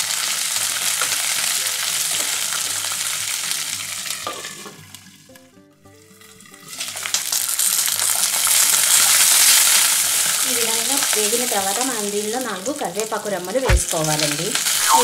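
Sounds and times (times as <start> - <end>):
food sizzling in hot oil: 0.0 - 5.3, 6.0 - 15.0.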